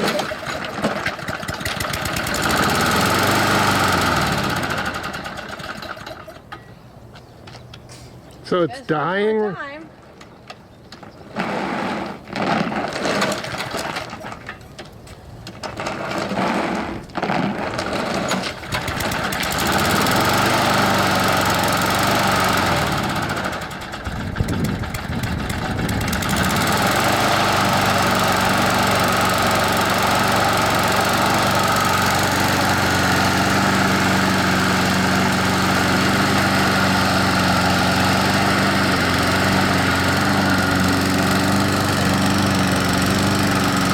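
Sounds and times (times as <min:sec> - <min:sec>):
lawn mower engine sputtering: 0:00.0 - 0:06.9, 0:11.0 - 0:43.9.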